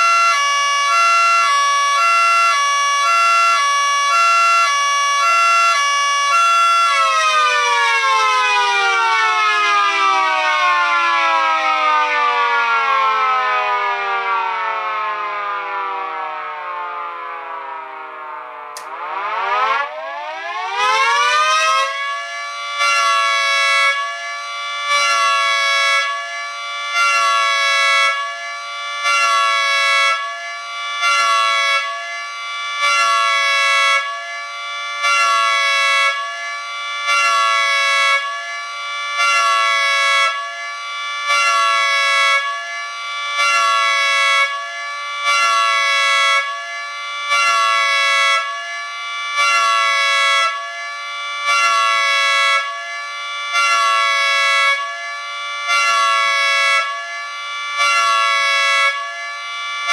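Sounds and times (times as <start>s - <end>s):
mechanical siren pulsing: 0.0s - 59.9s.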